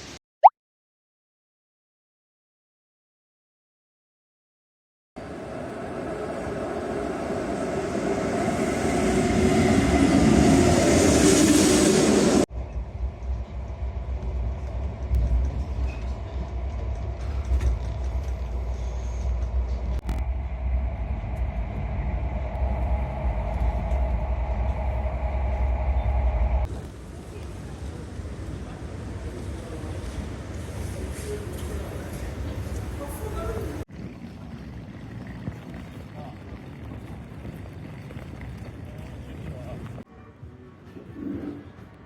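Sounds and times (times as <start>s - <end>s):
train low rumble: 5.2s - 40.1s
train rushing noise: 5.2s - 40.1s.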